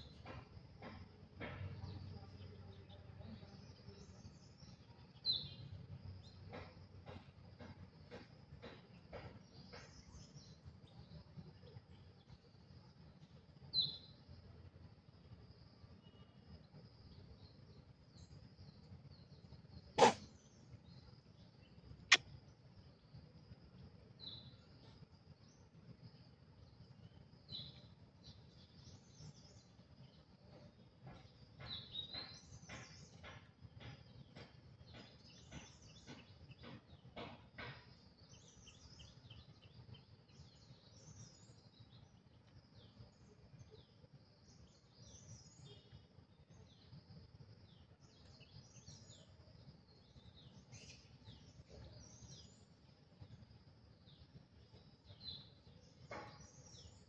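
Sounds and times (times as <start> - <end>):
small birds chirping and warbling: 0.0 - 57.0.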